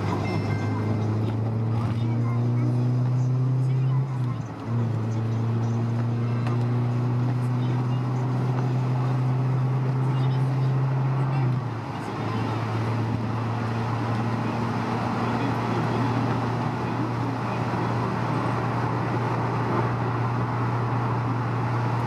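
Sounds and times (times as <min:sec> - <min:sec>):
car engine drone: 0:00.0 - 0:22.0
tyre and road noise: 0:00.0 - 0:22.0.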